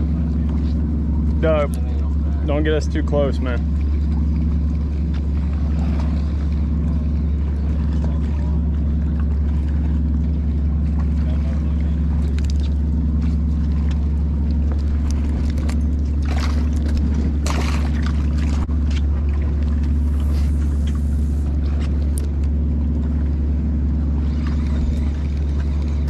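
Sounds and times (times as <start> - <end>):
boat engine droning: 0.0 - 26.0
water splashing and gurgling: 0.0 - 26.0.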